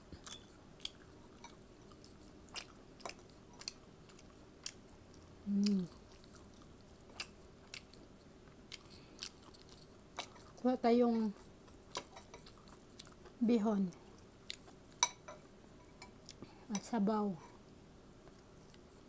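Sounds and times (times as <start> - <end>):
person chewing food: 0.0 - 15.2, 15.8 - 16.6, 18.2 - 19.0.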